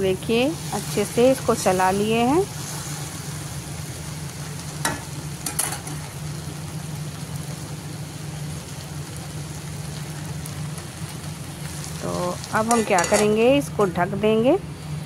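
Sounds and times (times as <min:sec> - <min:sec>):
okra sizzling in oil: 0:00.0 - 0:14.0.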